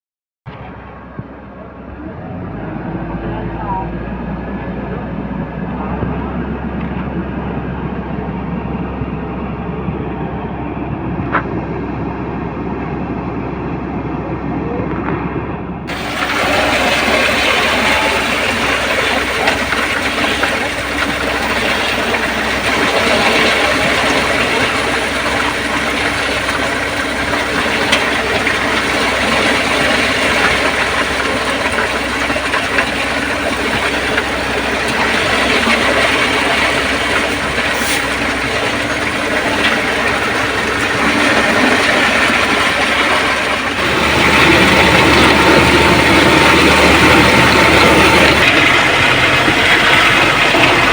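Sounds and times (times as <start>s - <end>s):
heavy diesel machinery running: 0.5s - 50.9s.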